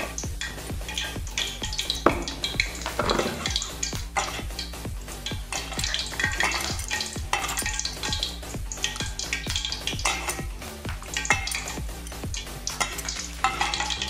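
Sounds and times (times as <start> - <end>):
hand squelching meat in marinade: 1.0 - 14.0.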